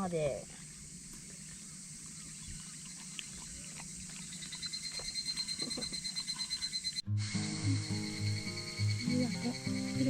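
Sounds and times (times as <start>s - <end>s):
insects hissing: 0.0s - 10.0s
high rapidly pulsing insect trill: 0.7s - 10.0s.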